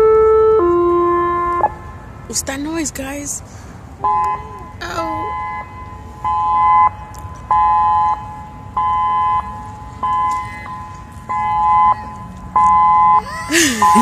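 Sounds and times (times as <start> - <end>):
two-note alarm blasts: 0.0 - 2.0, 4.0 - 14.0.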